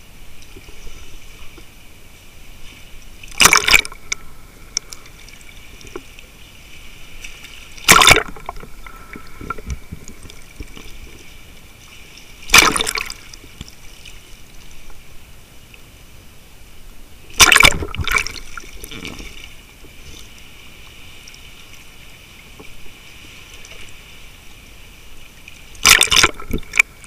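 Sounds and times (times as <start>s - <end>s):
steady hiss: 0.0s - 25.8s
underwater sloshing and bubbling: 0.0s - 27.0s
water rushes: 0.0s - 27.0s.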